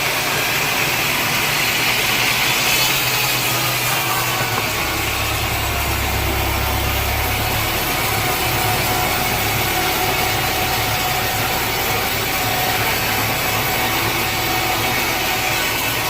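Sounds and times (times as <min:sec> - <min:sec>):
saw engine running: 0:00.0 - 0:16.0
saw whining: 0:00.0 - 0:16.0.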